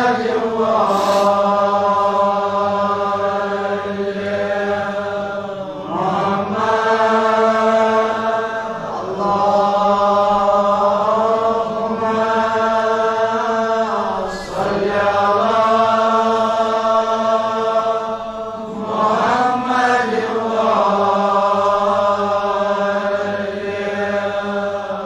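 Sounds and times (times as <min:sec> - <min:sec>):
congregation chanting in unison: 0:00.0 - 0:25.0.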